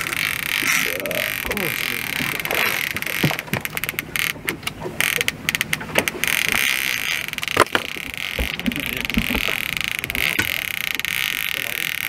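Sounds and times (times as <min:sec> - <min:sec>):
gear knocking and clicking: 0:00.0 - 0:12.0.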